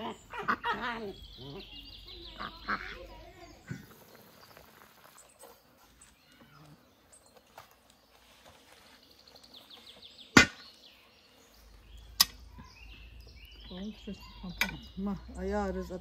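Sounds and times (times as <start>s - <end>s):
faint bird chirps: 1.0s - 15.6s.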